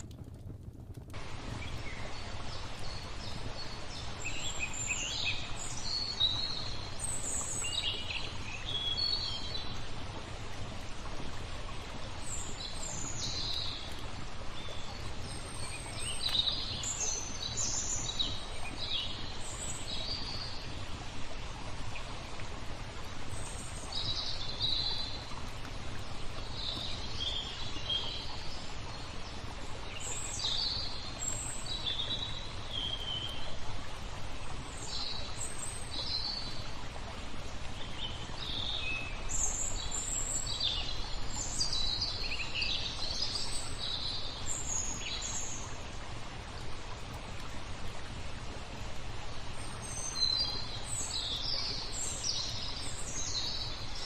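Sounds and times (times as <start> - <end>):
flowing water: 0.0 - 54.0
songbirds chirping: 1.1 - 54.0.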